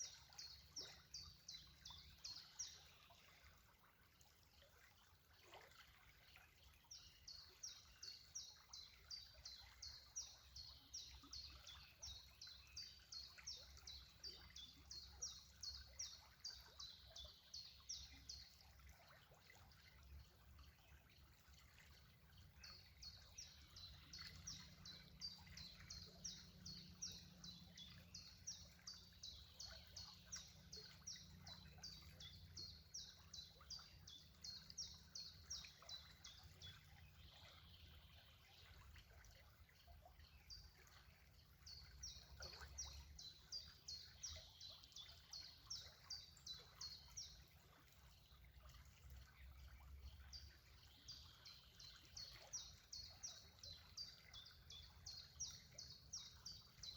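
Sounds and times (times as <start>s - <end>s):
faint trickling water: 0.0s - 56.9s.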